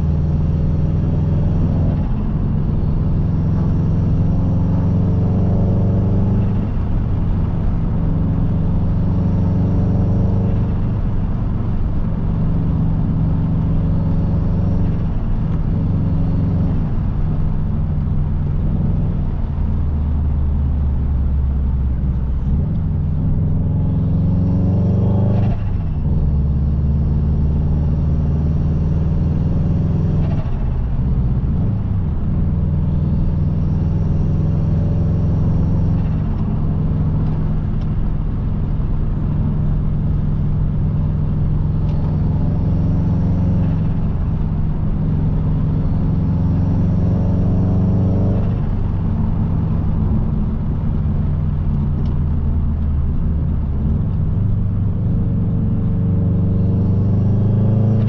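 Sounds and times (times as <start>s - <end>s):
car engine revving while driving: 0.0s - 58.0s
road noise: 0.0s - 58.0s.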